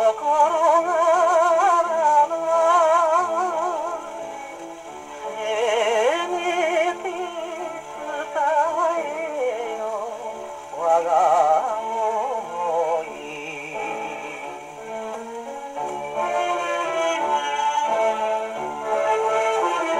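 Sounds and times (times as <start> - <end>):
gramophone playing popular song: 0.0 - 19.9
record surface hiss: 0.0 - 19.9.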